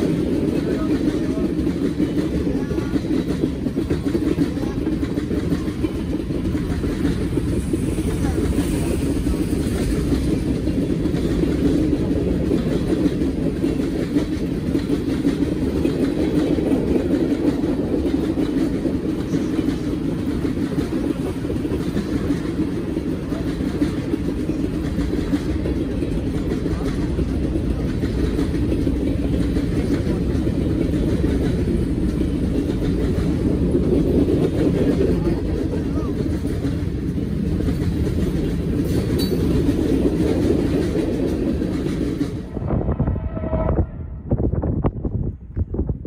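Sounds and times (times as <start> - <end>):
steel wheels rumbling on rails: 0.0 - 46.0.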